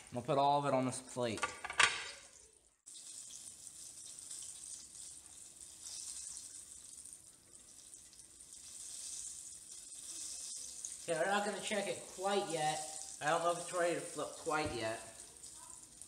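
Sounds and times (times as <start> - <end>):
fish sizzling in hot oil: 2.3 - 16.0.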